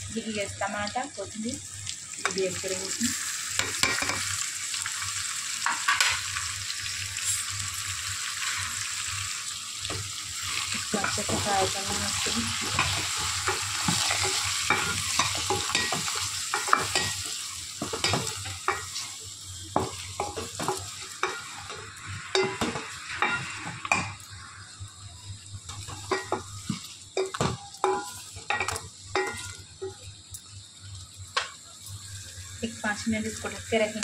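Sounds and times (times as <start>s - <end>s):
oil sizzling: 0.0s - 34.0s.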